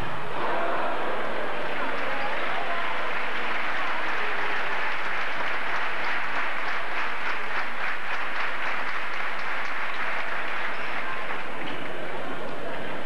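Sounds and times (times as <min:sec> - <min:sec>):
crowd applauding: 0:01.3 - 0:13.0.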